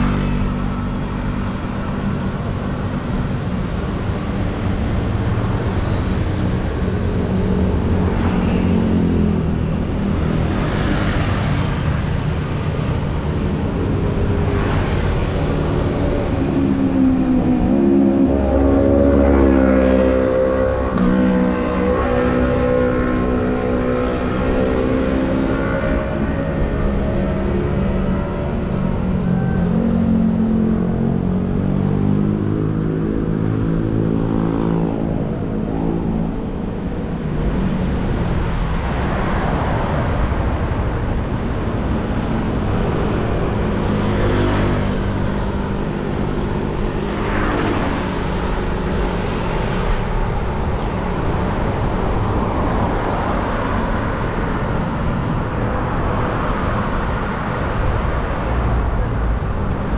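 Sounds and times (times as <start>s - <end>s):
steady road noise: 0.0s - 59.9s
vehicle engine humming: 0.0s - 59.9s
vehicles passing: 0.0s - 59.9s.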